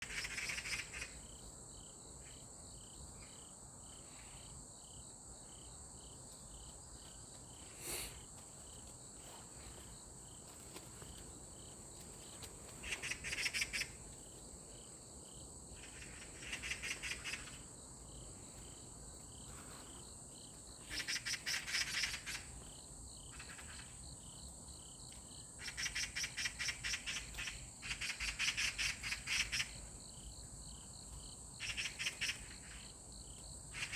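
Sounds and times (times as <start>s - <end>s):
crickets trilling: 0.0s - 33.9s
insects pulsed chirping: 0.0s - 33.9s.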